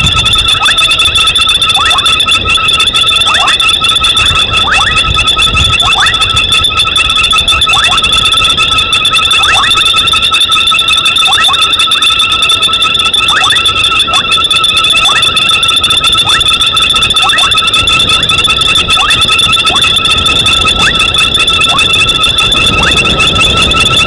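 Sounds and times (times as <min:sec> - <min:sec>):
shrill trilling of frogs and insects: 0:00.0 - 0:24.0.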